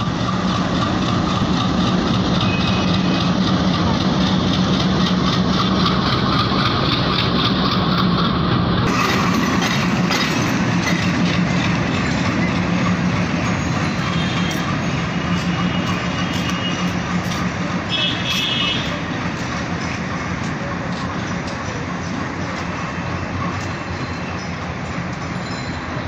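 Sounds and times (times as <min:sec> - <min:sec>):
diesel locomotive engine hum: 0:00.0 - 0:26.0
rail and wheel noise: 0:00.0 - 0:26.0.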